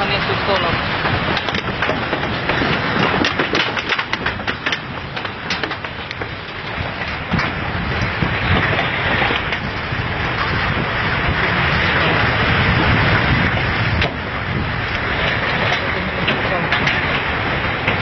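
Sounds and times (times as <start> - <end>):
earthquake shaking rumble: 0.0 - 18.0
rattles: 0.0 - 18.0.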